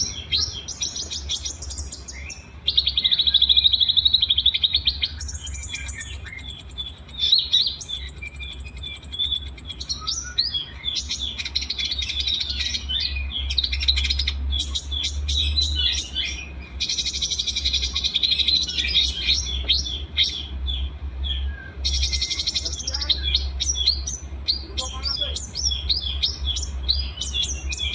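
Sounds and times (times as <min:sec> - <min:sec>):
songbirds chirping and trilling: 0:00.0 - 0:27.9
steady low hum: 0:00.0 - 0:27.9.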